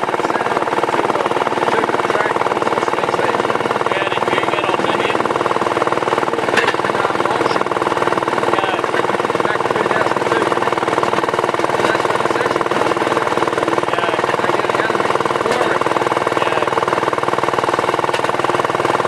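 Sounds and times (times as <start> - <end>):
rail car engine pulsing: 0.0 - 19.0.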